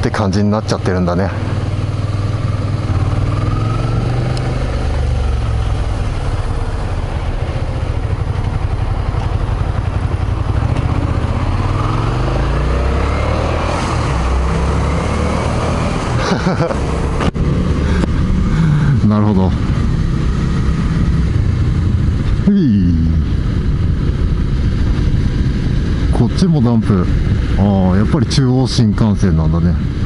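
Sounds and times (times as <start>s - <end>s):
motorcycle engine accelerating: 0.8s - 28.3s.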